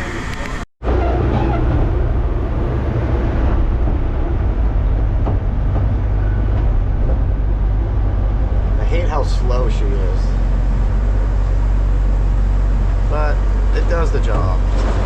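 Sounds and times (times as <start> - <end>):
large engine humming: 0.0 - 15.0.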